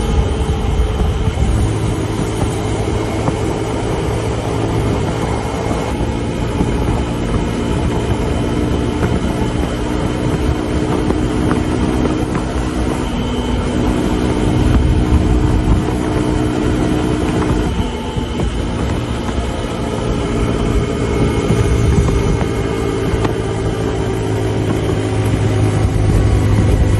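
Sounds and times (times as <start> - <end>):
motorcycle engine running at high speed: 0.0 - 26.9
wind and road noise: 0.0 - 26.9.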